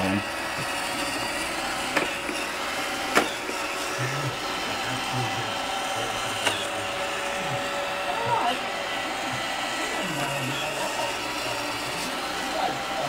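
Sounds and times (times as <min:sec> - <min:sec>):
robot vacuum motor whirring: 0:00.0 - 0:13.0.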